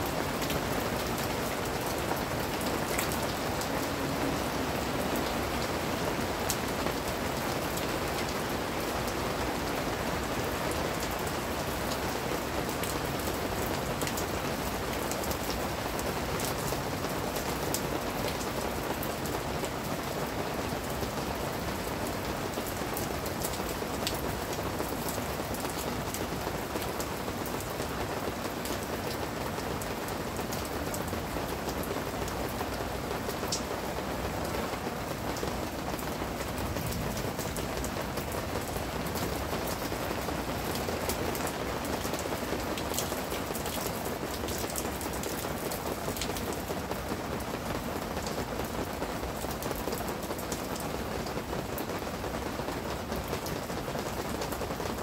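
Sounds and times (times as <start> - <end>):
rain on plants and paving: 0.0 - 55.0.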